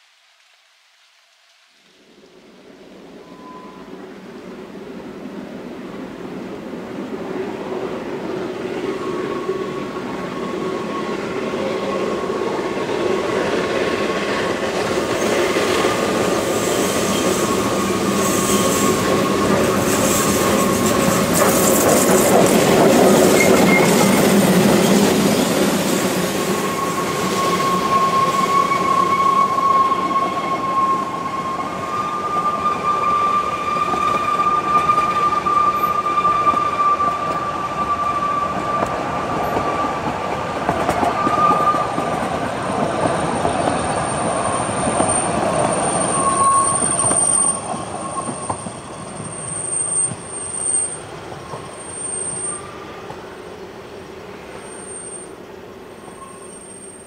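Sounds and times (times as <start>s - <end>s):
steam locomotive working: 2.9s - 57.0s
train wheel squeal: 3.1s - 4.2s, 8.2s - 57.0s.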